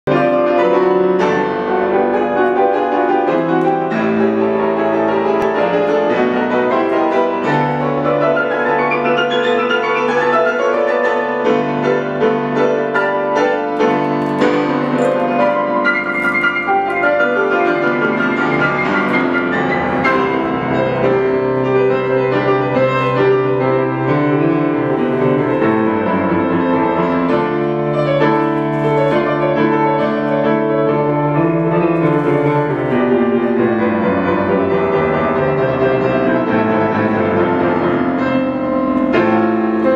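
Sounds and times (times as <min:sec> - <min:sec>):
grand piano piece: 0:00.0 - 0:39.9.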